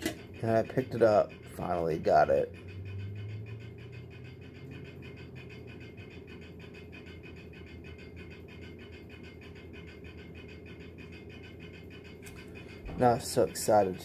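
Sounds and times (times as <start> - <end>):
pulsing machine hum: 0.0 - 14.0.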